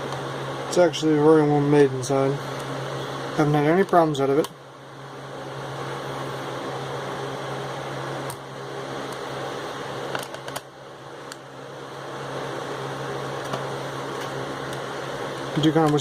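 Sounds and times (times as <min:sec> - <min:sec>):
fan-like hum and hiss: 0:00.0 - 0:16.0.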